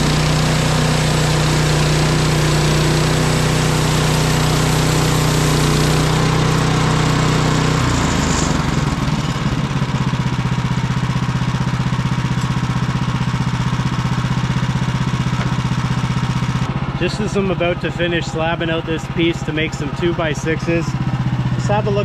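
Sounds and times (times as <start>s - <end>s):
sawmill gasoline engine idling: 0.0s - 22.0s.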